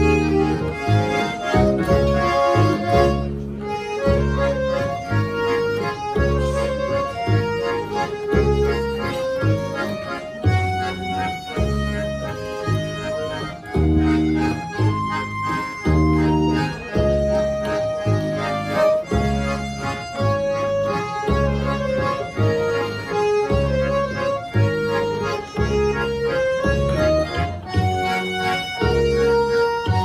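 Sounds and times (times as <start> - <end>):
button accordions playing folk music: 0.0 - 30.0
double bass: 0.0 - 30.0.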